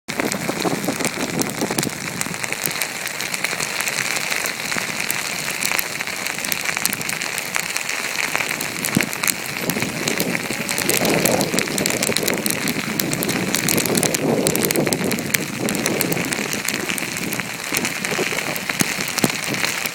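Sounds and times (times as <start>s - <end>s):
snow grains ticking: 0.1s - 19.9s
wind: 0.1s - 19.9s.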